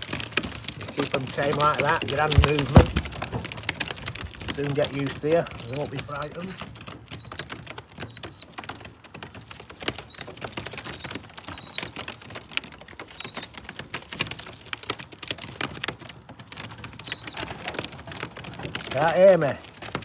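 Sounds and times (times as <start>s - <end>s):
pigeons pecking feed: 0.0s - 20.0s.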